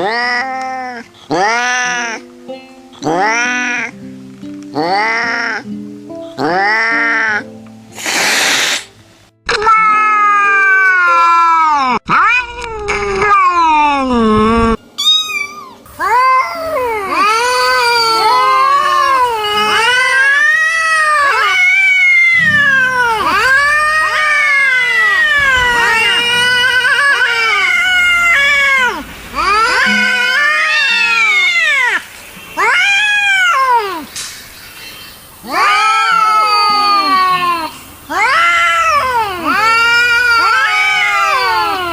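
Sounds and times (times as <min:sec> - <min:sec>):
cats yowling: 0:00.0 - 0:02.2, 0:03.0 - 0:03.9, 0:04.8 - 0:05.7, 0:06.4 - 0:07.5, 0:09.6 - 0:13.9, 0:15.0 - 0:34.1, 0:35.4 - 0:41.9.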